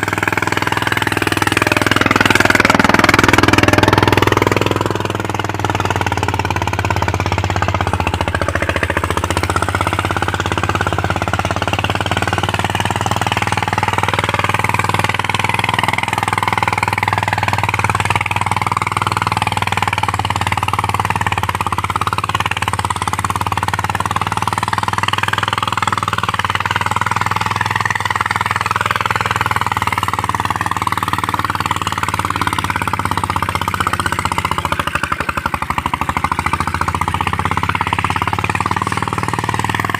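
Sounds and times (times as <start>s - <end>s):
diesel tractor engine knocking: 0.0s - 39.9s.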